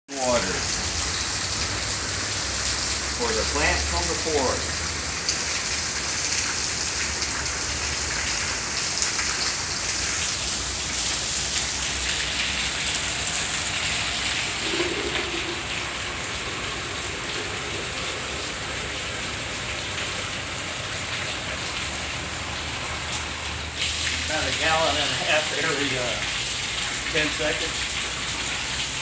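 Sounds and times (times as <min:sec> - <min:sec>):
runoff pouring into plastic jug: 0:00.1 - 0:29.0
steady rain falling: 0:00.1 - 0:29.0.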